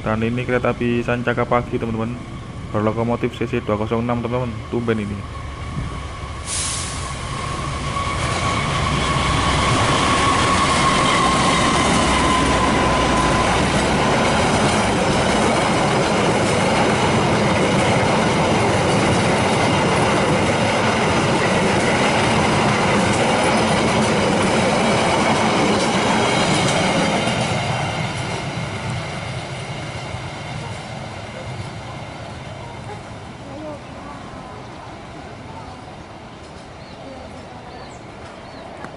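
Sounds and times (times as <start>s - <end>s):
locomotive whine: 0.0s - 36.6s
train running on rails: 0.0s - 38.9s.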